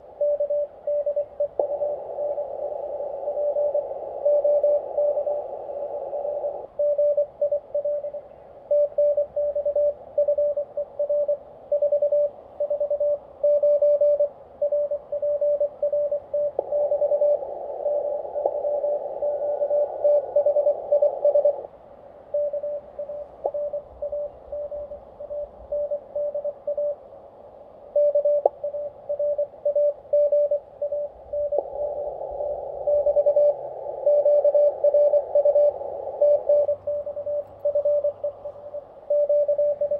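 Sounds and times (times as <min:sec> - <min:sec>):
radio band hiss: 0:00.0 - 0:39.9
morse code tone: 0:06.2 - 0:21.6, 0:22.3 - 0:27.0, 0:28.0 - 0:39.9.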